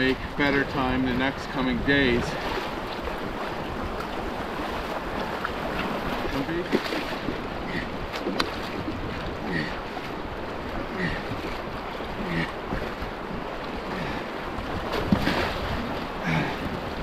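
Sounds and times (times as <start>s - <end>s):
paddle strokes in water: 0.0s - 17.0s
river water rushing: 0.0s - 17.0s
wind buffeting microphone: 0.0s - 17.0s.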